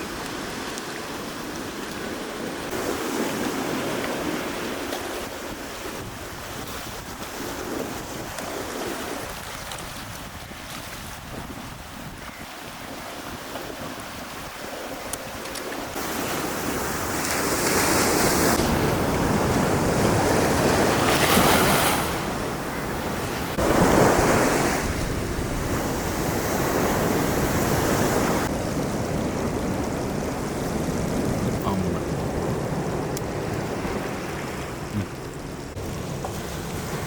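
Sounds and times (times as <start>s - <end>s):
sea waves breaking on beach: 0.0s - 37.0s
wind buffeting microphone: 1.4s - 37.0s.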